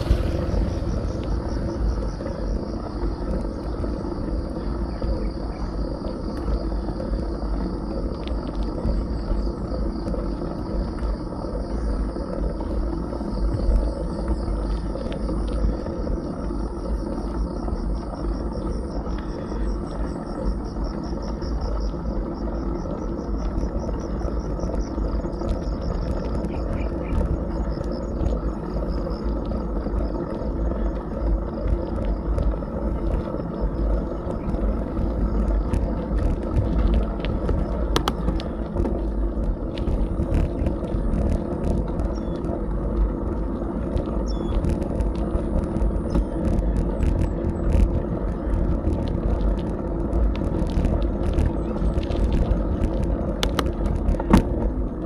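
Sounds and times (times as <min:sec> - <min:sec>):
insects trilling: 0:00.0 - 0:54.7
bicycle tyre rumble: 0:00.0 - 0:55.0
wind on camera microphone: 0:00.0 - 0:55.0.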